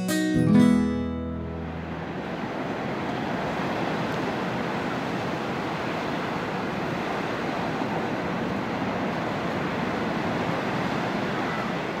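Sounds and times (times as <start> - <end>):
ocean surf breaking on beach: 1.4 - 12.0.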